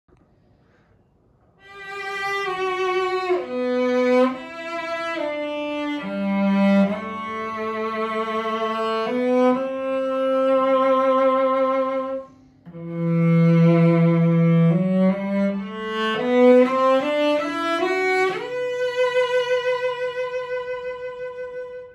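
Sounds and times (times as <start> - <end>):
bowed cello with vibrato: 1.6 - 21.9.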